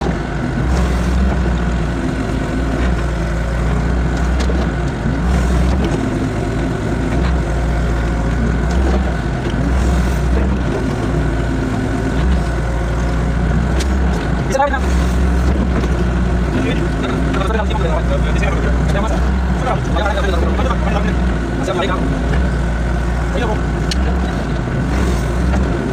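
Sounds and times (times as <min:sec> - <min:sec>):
excavator diesel engine rumbling: 0:00.0 - 0:25.9.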